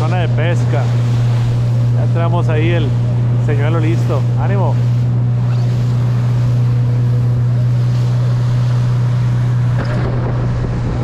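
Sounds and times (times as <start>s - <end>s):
motorboat engine drone: 0.0s - 11.0s
rushing water: 0.0s - 11.0s
wind: 0.0s - 11.0s.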